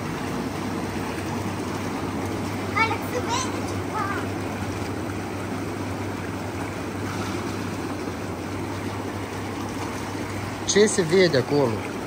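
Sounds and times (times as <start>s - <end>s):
blower hum: 0.0s - 12.0s
water churning and bubbling: 0.0s - 12.0s.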